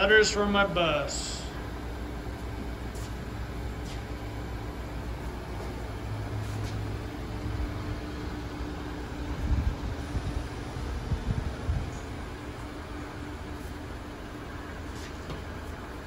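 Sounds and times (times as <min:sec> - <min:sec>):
booth hum and hiss: 0:00.0 - 0:16.0.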